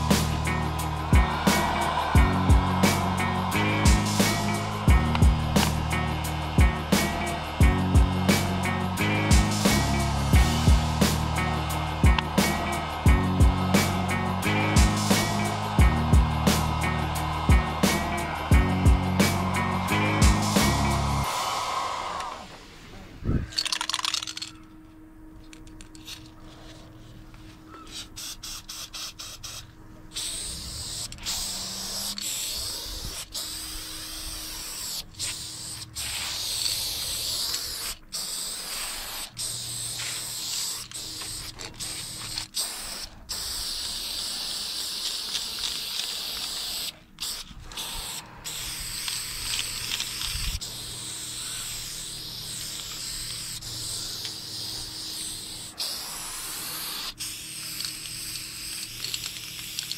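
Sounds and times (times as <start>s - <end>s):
spray paint can hissing: 0.0s - 22.6s, 23.4s - 24.5s, 27.8s - 59.9s.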